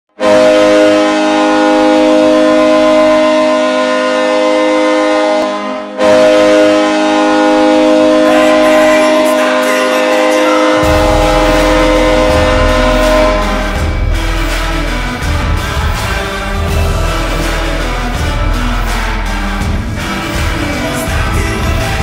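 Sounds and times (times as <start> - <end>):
train horn chord: 0.1 - 22.0.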